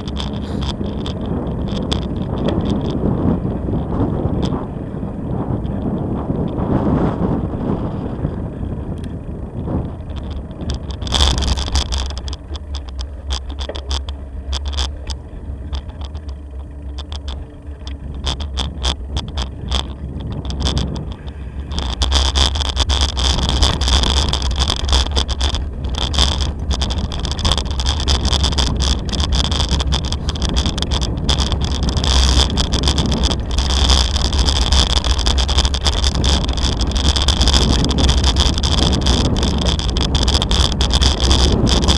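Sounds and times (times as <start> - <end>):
bicycle rattling over cobblestones: 0.0 - 41.9
wind on microphone: 0.0 - 41.9.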